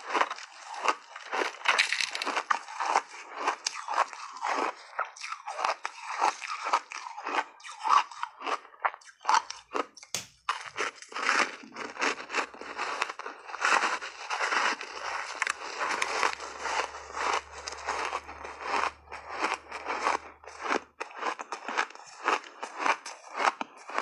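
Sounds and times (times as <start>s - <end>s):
ice being chewed: 0.0s - 24.0s.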